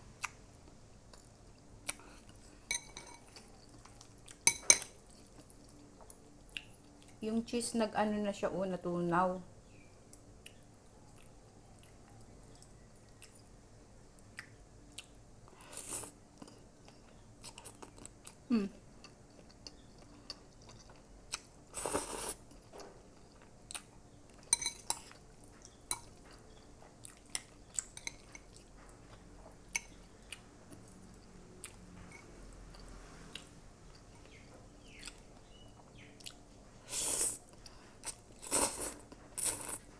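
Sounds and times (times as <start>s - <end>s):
person chewing food: 1.1s - 7.2s, 10.4s - 13.6s, 14.2s - 39.9s.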